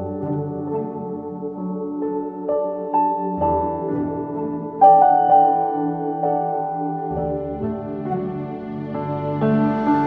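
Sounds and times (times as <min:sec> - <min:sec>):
gentle new-age keyboard music: 0:00.0 - 0:10.0.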